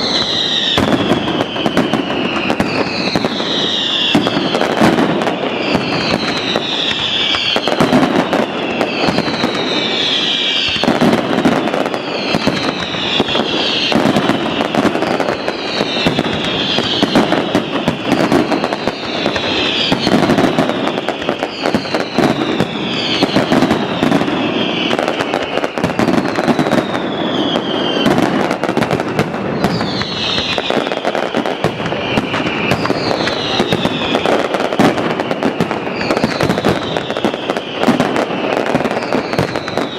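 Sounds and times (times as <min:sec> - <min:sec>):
firework whistle gliding down: 0:00.0 - 0:39.9
fireworks crackling and popping: 0:00.0 - 0:39.9.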